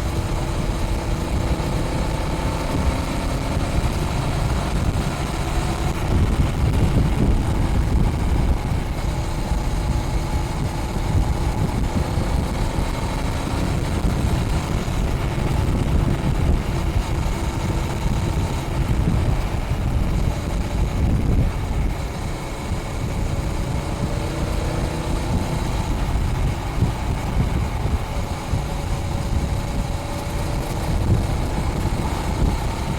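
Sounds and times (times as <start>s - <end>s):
motorcycle engine running: 0.0s - 32.9s
wind buffeting on microphone: 0.0s - 32.9s.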